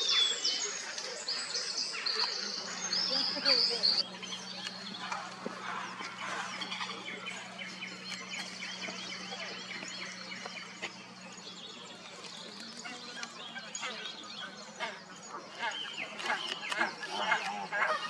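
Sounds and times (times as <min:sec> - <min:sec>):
songbirds chirping and singing: 0:00.0 - 0:18.0
low hum: 0:00.6 - 0:18.0.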